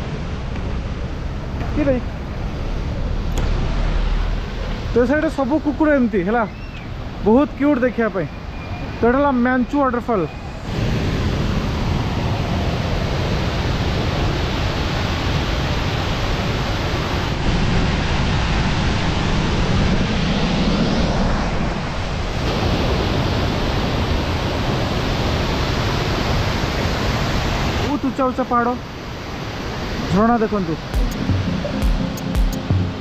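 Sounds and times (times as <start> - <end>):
waterfall roaring: 0.0 - 20.1, 22.2 - 33.0.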